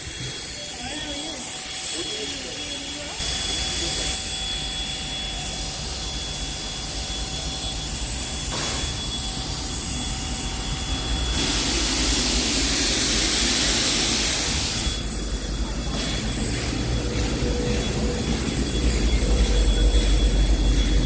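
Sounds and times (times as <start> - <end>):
steam locomotive hissing: 0.0 - 21.0
thin high whine: 0.0 - 21.0.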